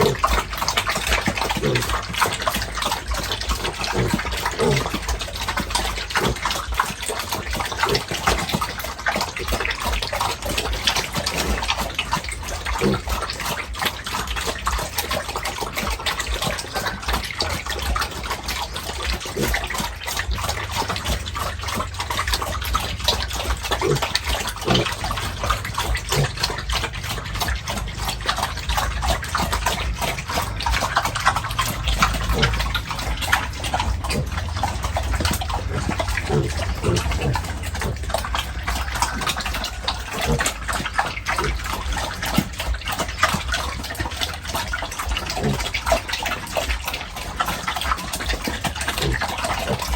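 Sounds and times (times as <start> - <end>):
water running and splashing: 0.0 - 49.9.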